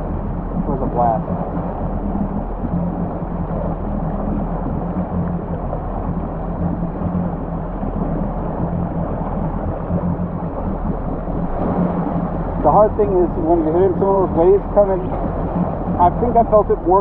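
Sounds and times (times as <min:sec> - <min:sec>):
jet ski engine idling: 0:00.0 - 0:17.0
water gurgling: 0:00.0 - 0:17.0.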